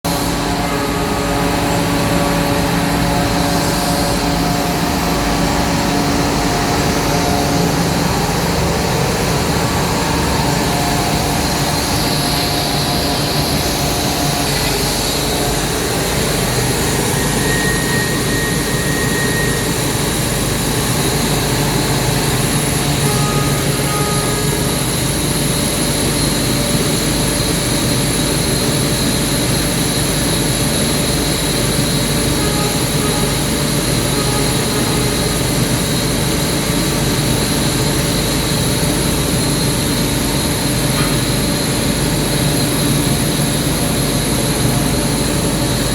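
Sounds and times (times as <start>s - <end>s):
air compressor running: 0.0s - 45.9s
faint high whine: 0.1s - 43.9s.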